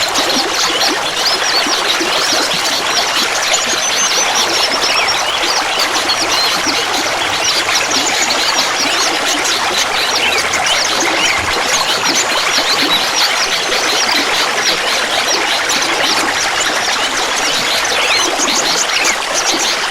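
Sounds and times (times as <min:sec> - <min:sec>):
high bubbling plinks: 0:00.0 - 0:19.5
water babbling: 0:00.0 - 0:19.9.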